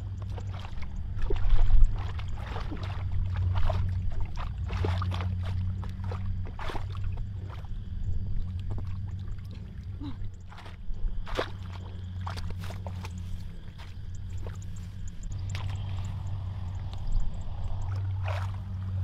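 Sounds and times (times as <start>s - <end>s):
mud squelching: 0.0s - 19.0s
steady low rumble: 0.0s - 19.0s
hands splashing in muddy water: 0.1s - 19.0s.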